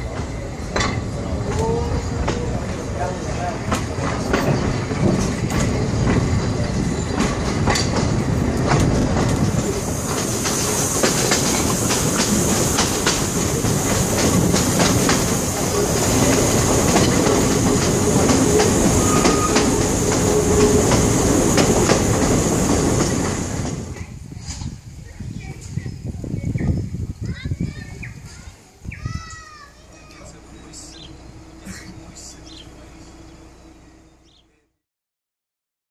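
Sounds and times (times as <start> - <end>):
train carriages rumbling on track: 0.0 - 34.6.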